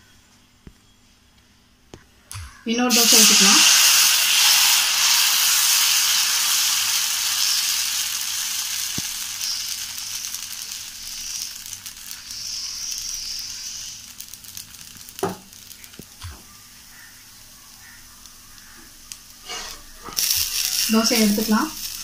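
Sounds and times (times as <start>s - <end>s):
batter sizzling on hot griddle: 2.9s - 22.0s.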